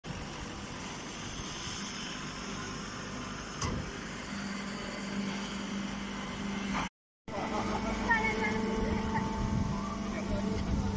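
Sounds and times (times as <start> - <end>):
baler machine hum: 0.1 - 10.9.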